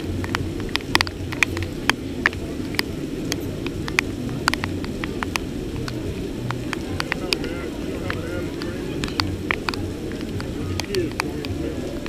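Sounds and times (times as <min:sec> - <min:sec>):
raindrops tapping near microphone: 0:00.0 - 0:12.0
steady rainfall: 0:00.0 - 0:12.0.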